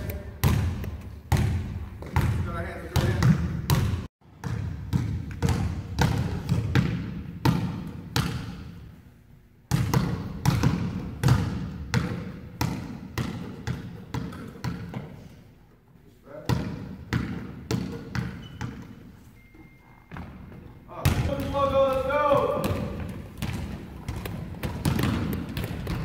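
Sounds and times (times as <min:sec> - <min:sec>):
basketballs bouncing on wooden floor: 0:00.0 - 0:08.8, 0:09.7 - 0:15.4, 0:16.4 - 0:19.1, 0:20.1 - 0:26.0.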